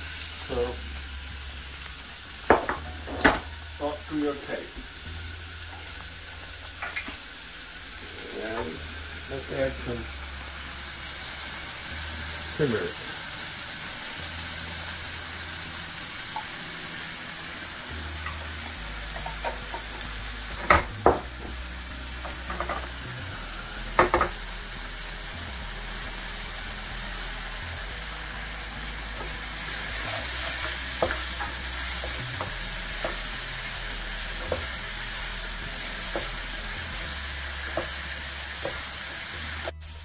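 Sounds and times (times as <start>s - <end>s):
vegetables sizzling in a saucepan: 0.0s - 40.0s.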